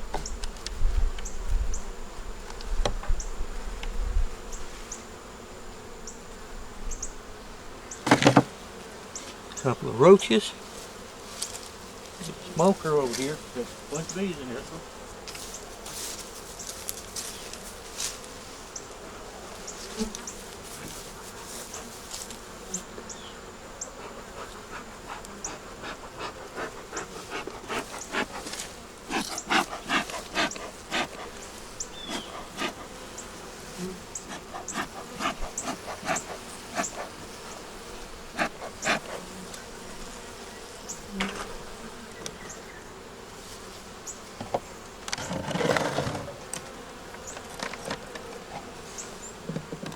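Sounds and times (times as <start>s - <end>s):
bees buzzing: 0.0s - 49.9s.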